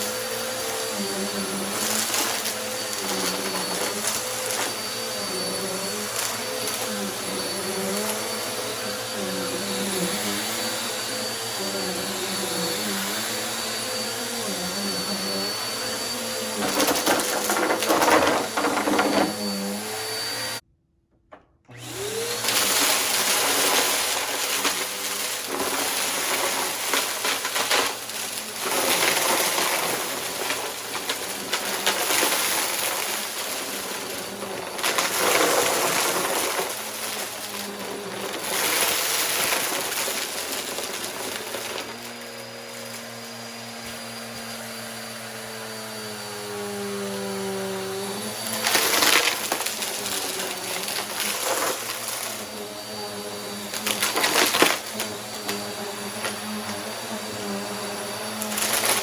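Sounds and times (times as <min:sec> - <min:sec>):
debris crackling in vacuum: 0:00.0 - 0:19.8, 0:21.8 - 0:44.8, 0:47.9 - 0:59.0
upright vacuum running: 0:00.0 - 0:20.6, 0:21.3 - 0:59.0.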